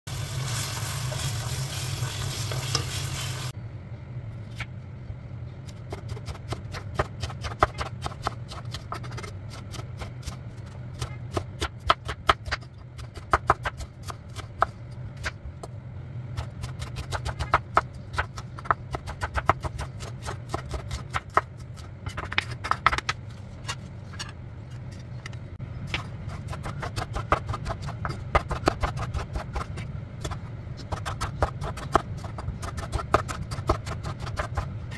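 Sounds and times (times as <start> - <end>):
low steady hum: 0.1 - 34.9.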